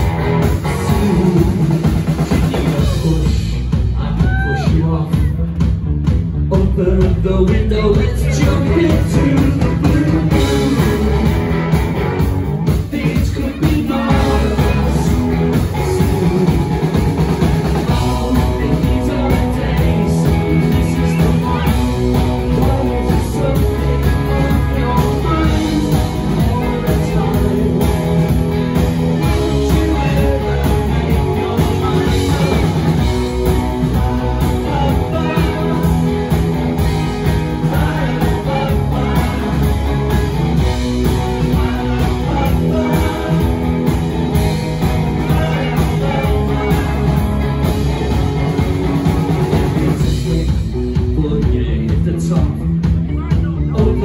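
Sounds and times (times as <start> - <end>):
man singing lead vocal: 0.0 - 5.8, 6.4 - 11.6, 12.6 - 54.0
bass guitar: 0.0 - 54.0
drum kit: 0.0 - 54.0
electric guitars: 0.0 - 54.0.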